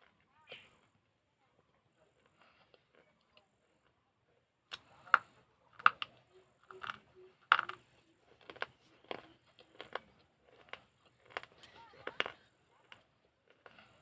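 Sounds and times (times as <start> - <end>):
clay pot being chewed: 1.6 - 14.0.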